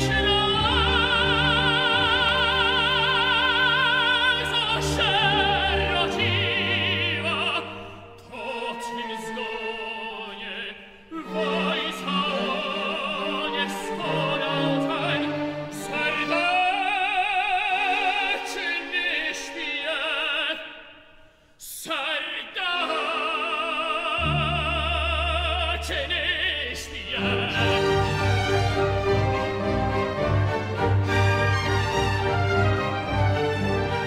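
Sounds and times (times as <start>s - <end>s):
operatic tenor singing: 0.0s - 21.0s, 21.6s - 34.0s
symphony orchestra: 0.0s - 21.0s, 21.6s - 34.0s.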